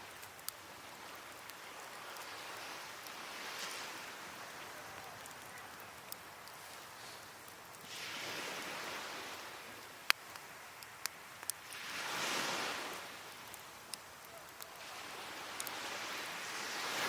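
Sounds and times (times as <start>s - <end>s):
waves washing onto beach: 0.0s - 17.0s
wood fire crackling and popping: 0.0s - 17.0s.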